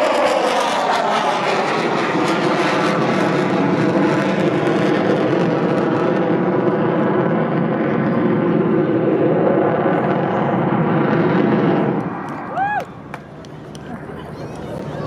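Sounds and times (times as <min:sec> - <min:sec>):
loud jet flypast: 0:00.0 - 0:15.0.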